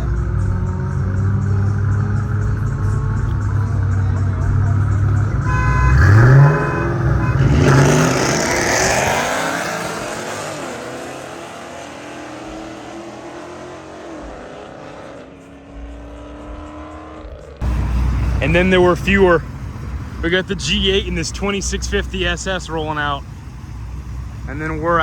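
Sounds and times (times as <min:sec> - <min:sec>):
car engine idling: 0:00.0 - 0:25.0
car engine revving: 0:00.0 - 0:25.0.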